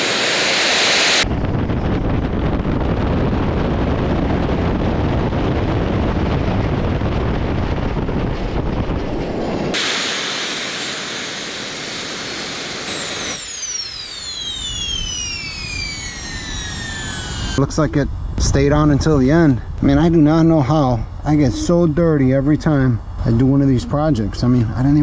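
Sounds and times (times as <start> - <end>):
high turbine whine: 0.0 - 25.0
jet turbines roaring: 0.0 - 25.0.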